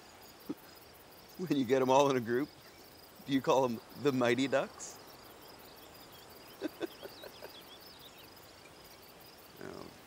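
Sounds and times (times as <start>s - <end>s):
insects chirping: 0.0s - 10.0s
small birds chirping: 0.0s - 10.0s.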